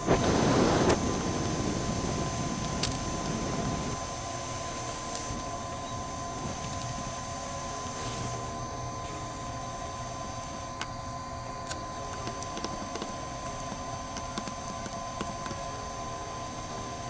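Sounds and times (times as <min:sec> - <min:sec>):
hot air gun blowing: 0:00.0 - 0:17.0.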